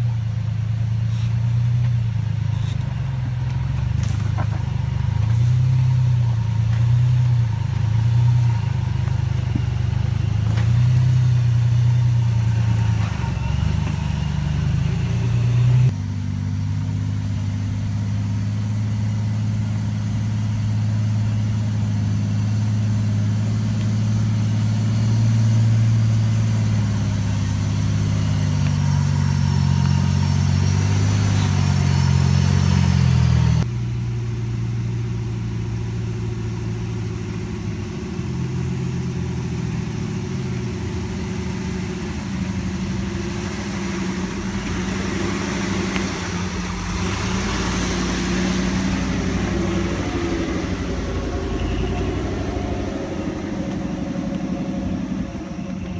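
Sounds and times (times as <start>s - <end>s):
off-road car engines crawling: 0.0s - 55.9s.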